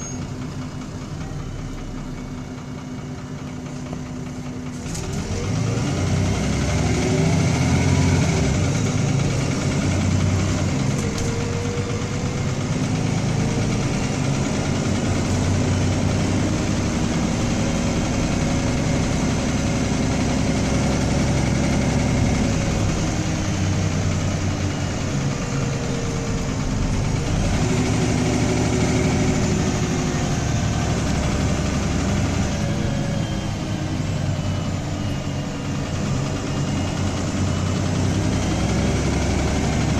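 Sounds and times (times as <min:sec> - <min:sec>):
bus diesel engine under load: 0:00.0 - 0:39.9.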